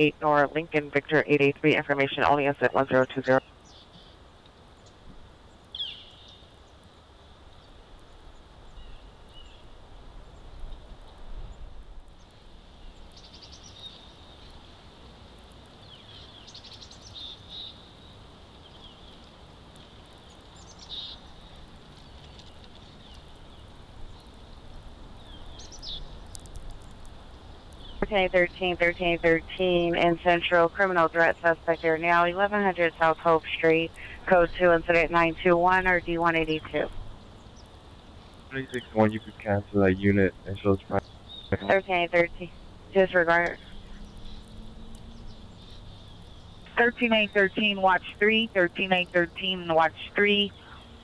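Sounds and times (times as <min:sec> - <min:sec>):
low radio hiss: 0:00.0 - 0:51.0.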